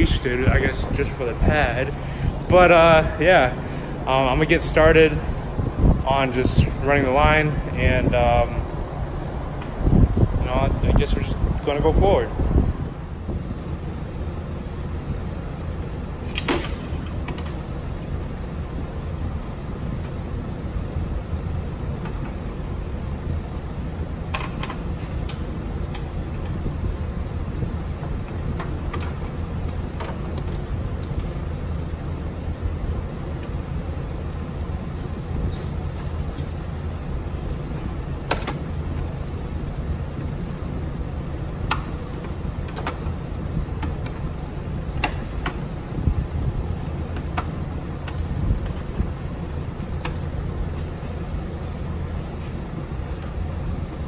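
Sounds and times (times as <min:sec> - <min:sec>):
low background hum: 0:00.0 - 0:54.0.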